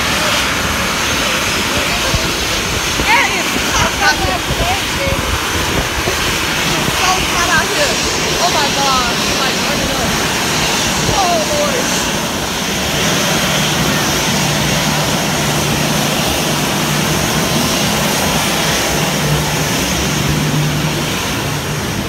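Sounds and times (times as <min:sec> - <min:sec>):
aircraft engines roaring: 0:00.0 - 0:22.0.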